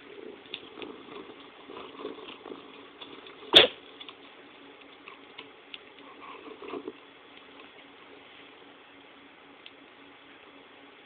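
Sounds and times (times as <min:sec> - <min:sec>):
small ticks: 0:00.0 - 0:08.1, 0:09.0 - 0:10.4
faint crackling: 0:00.0 - 0:10.6.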